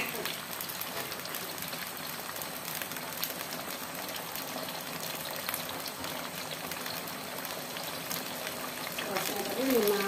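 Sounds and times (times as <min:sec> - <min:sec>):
sauce simmering and bubbling: 0:00.0 - 0:10.0.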